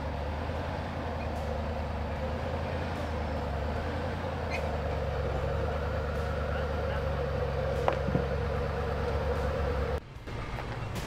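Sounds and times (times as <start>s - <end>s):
engine running with low drone: 0.0s - 11.0s.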